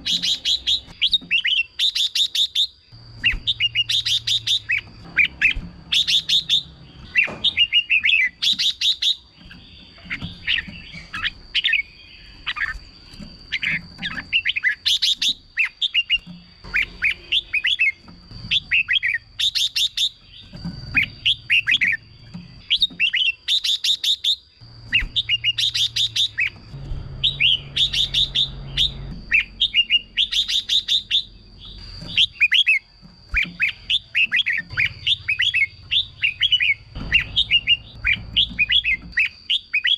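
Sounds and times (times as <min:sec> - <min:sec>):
bird chirping and warbling: 0:00.0 - 0:39.9.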